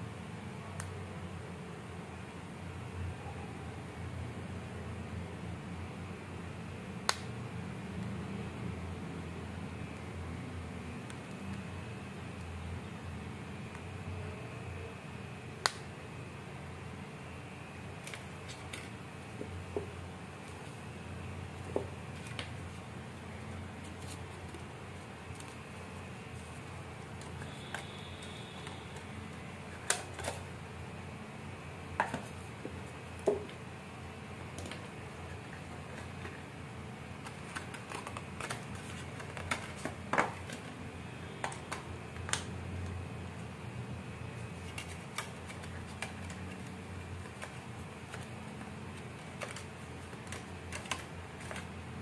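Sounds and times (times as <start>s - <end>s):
low room hum: 0.0s - 52.0s.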